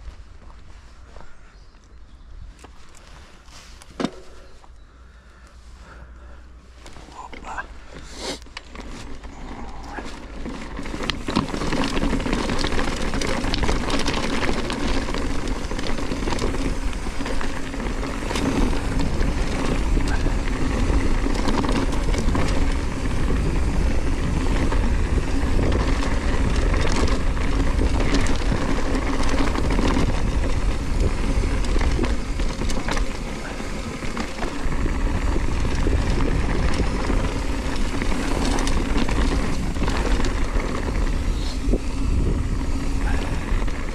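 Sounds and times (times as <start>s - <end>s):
bike tyres crunching on gravel: 0.0s - 1.8s, 2.4s - 43.9s
bike rattling: 2.5s - 43.9s
wind rumble on microphone: 8.7s - 43.9s.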